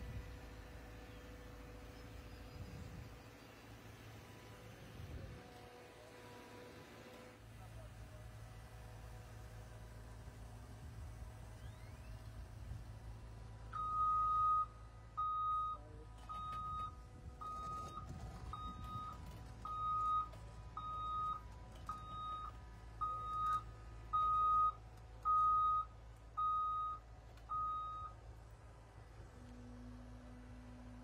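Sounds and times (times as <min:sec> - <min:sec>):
excavator engine rumble: 0:00.0 - 0:31.0.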